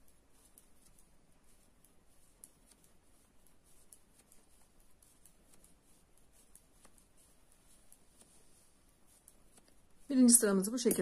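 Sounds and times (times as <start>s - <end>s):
knitting needles ticking: 0.0s - 11.0s
yarn rubbing: 0.0s - 11.0s.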